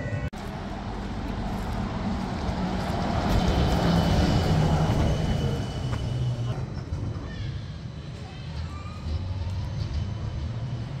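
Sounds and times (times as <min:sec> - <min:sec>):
bus passing by: 0:00.0 - 0:07.0, 0:07.9 - 0:11.0.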